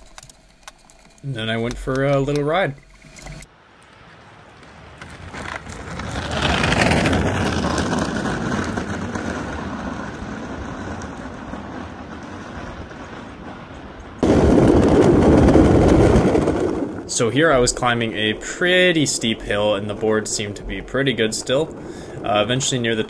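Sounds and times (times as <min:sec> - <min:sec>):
close-up wheel rumble on road: 0:03.1 - 0:23.0
skateboard wheels rumbling on asphalt: 0:03.4 - 0:23.0.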